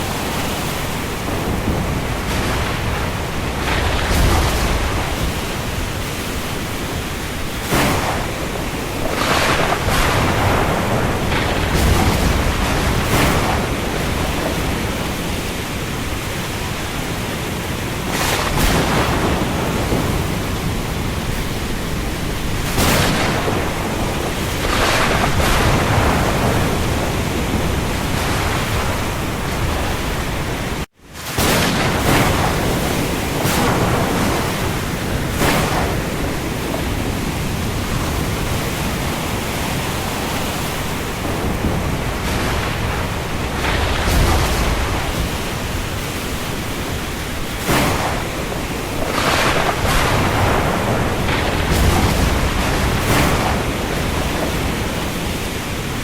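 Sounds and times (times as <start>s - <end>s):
heavy rain on the sea: 0.0s - 56.0s
waves swelling: 0.0s - 56.0s.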